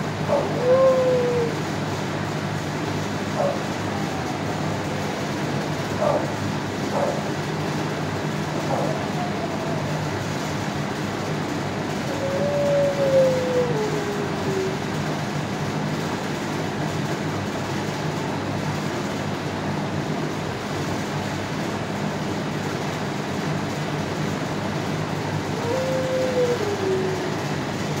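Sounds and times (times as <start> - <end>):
air-handling machinery drone: 0.0 - 28.0.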